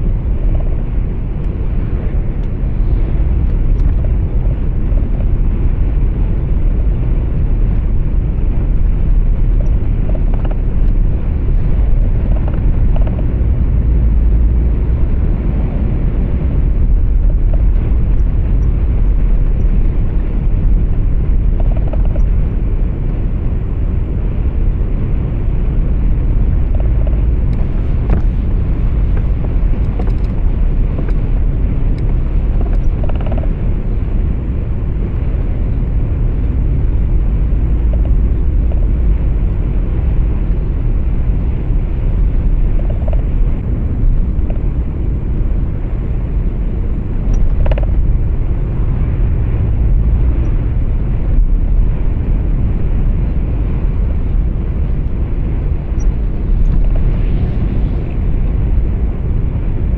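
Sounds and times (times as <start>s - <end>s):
road and engine rumble in truck cab: 0.0s - 59.9s.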